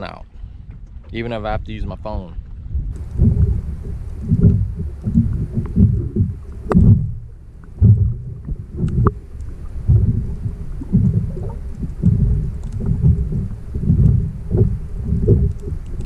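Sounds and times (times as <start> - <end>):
water and wind buffeting: 0.0 - 16.0
sharp knocks: 3.0 - 16.0.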